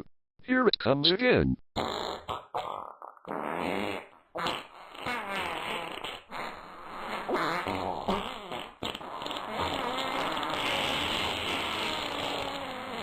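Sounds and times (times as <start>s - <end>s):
long wavering fart: 1.8s - 13.0s.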